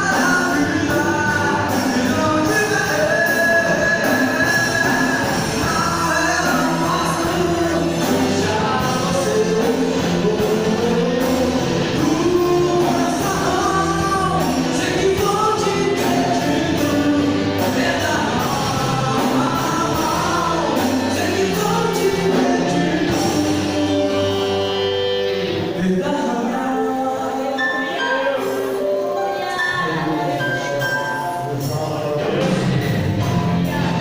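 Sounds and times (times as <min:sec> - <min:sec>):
person singing: 0:00.0 - 0:34.0
worship band playing: 0:00.0 - 0:34.0.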